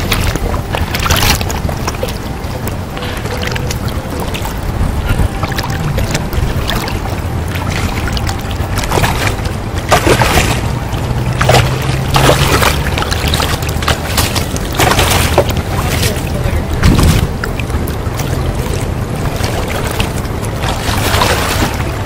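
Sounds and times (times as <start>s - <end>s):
river current rushing: 0.0s - 22.0s
wind buffeting microphone: 0.0s - 22.0s.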